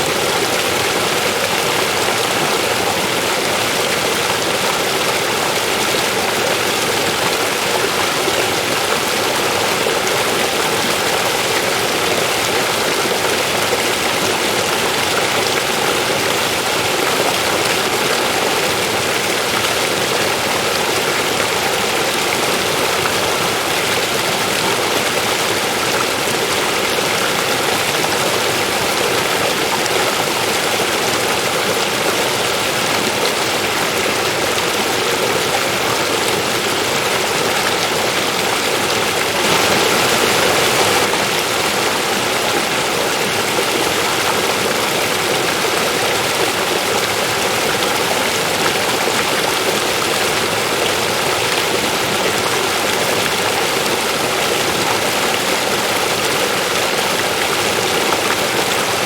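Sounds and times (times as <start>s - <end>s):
river water flowing over rocks: 0.0s - 59.0s.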